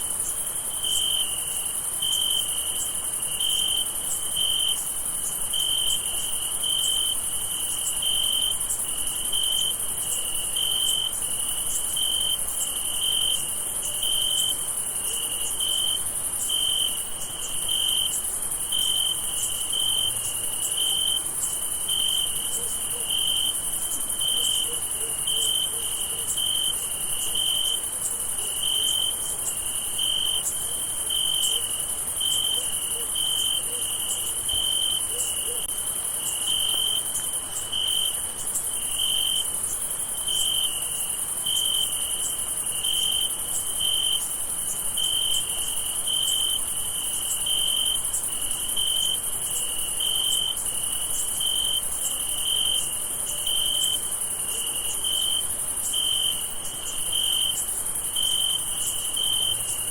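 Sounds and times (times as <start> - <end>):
crickets trilling: 0.0 - 59.9
low-pitched cricket chirping: 0.0 - 59.9.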